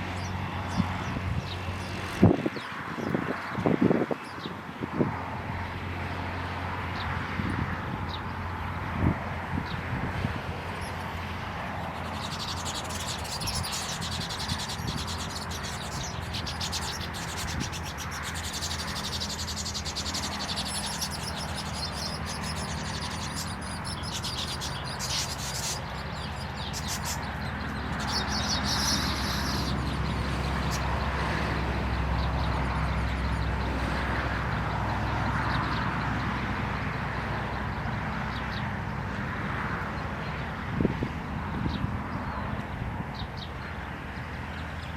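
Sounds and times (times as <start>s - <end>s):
small birds chirping: 0.0s - 5.2s, 6.9s - 39.1s.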